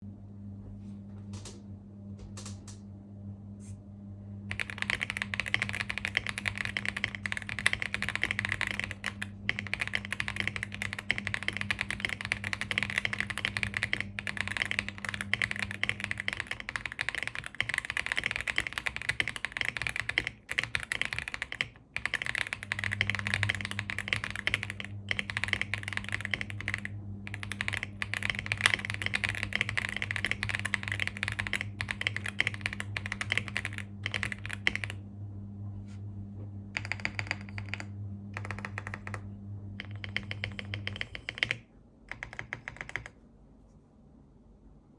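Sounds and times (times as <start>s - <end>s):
steady low hum: 0.0s - 44.9s
mechanical keyboard typing: 4.5s - 35.0s, 36.8s - 43.2s.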